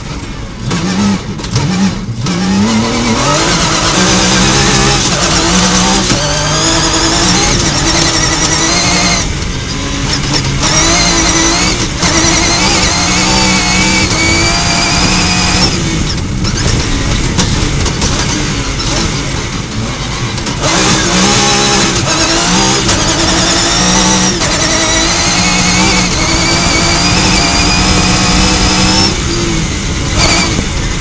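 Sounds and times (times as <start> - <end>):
gravel and tyre noise: 0.0 - 31.0
rally car engine revving: 0.0 - 31.0.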